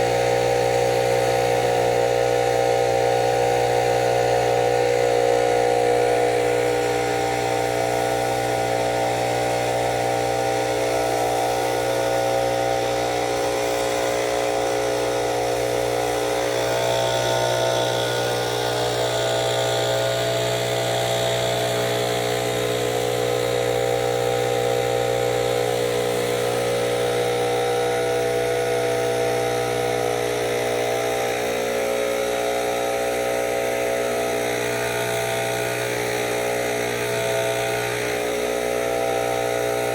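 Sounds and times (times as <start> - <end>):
steady machine drone: 0.0 - 39.9.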